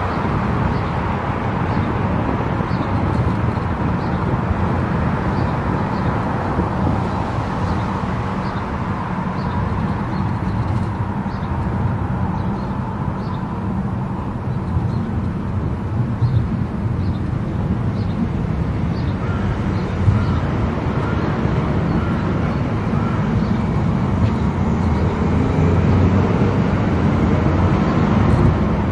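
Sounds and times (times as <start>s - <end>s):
car road and tyre noise: 0.0s - 28.9s.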